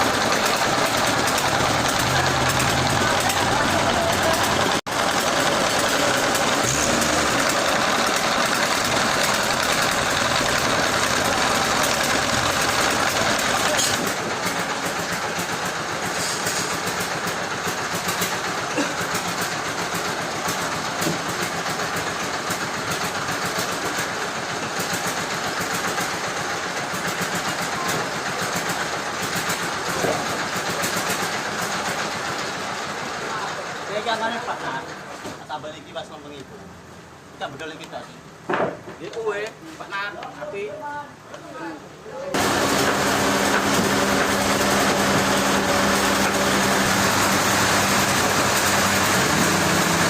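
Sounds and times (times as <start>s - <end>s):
machinery running steadily: 0.0s - 35.3s, 42.3s - 50.0s.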